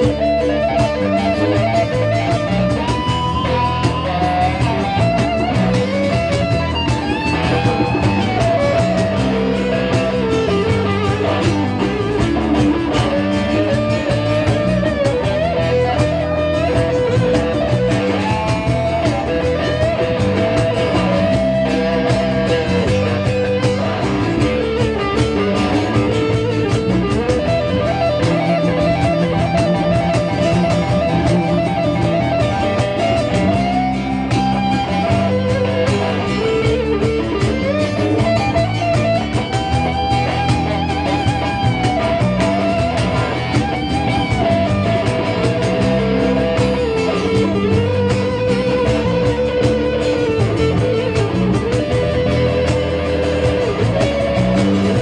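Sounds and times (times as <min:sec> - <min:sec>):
bass and drums: 0:00.0 - 0:55.0
lead electric guitar bending notes: 0:00.0 - 0:55.0.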